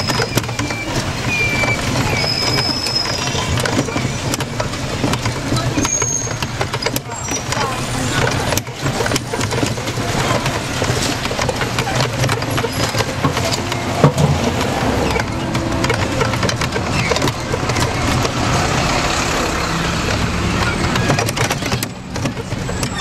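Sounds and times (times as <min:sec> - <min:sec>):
passing cars and scooters: 0:00.0 - 0:23.0
road noise: 0:00.0 - 0:23.0
small knocks and rattles: 0:00.0 - 0:23.0.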